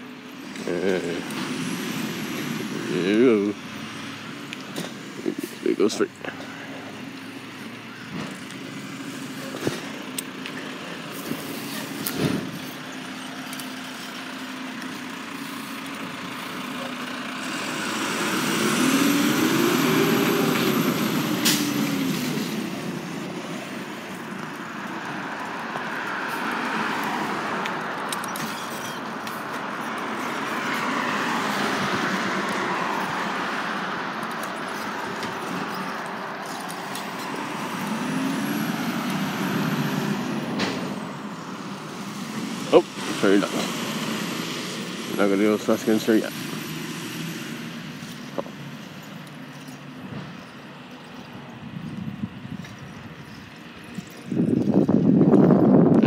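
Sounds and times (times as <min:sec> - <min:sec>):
road noise: 0:00.0 - 0:56.0
garbage truck engine driving off: 0:00.4 - 0:51.0.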